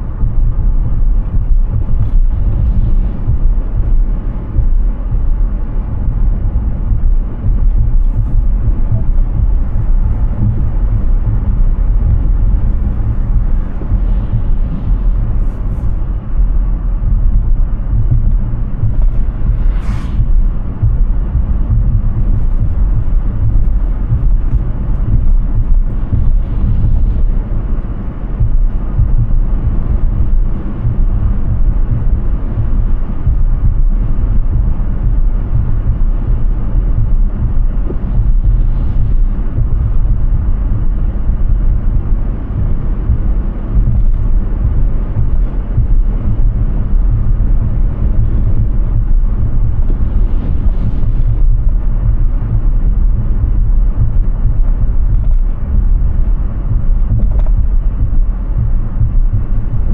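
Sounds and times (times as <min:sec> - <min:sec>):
tyre and wind noise: 0:00.0 - 0:59.9.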